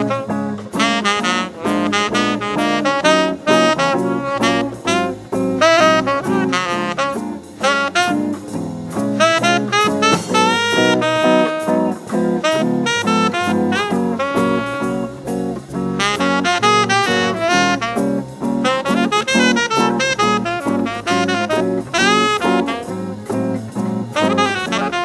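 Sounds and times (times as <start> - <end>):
drums: 0.0 - 25.0
tenor saxophone solo: 0.0 - 25.0
bass line: 3.2 - 25.0.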